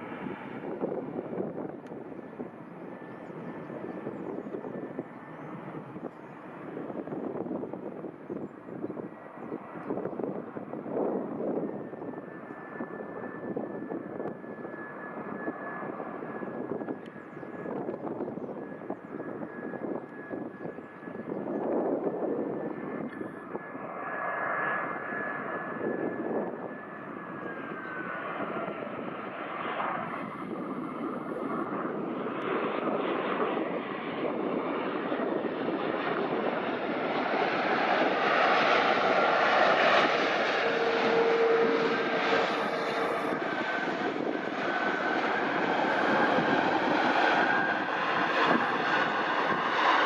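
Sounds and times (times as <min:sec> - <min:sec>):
jet engine rush: 0:00.0 - 0:50.0
jet engine whine: 0:00.0 - 0:50.0.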